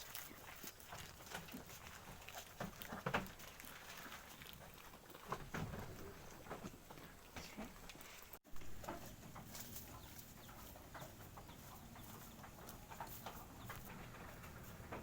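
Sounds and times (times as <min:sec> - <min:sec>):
farmyard animal sounds: 0:00.0 - 0:15.0.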